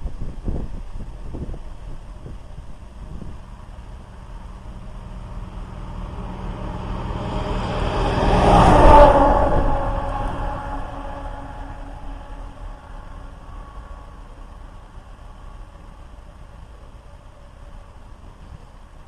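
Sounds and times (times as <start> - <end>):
motor vehicle approaching: 0.0 - 19.0.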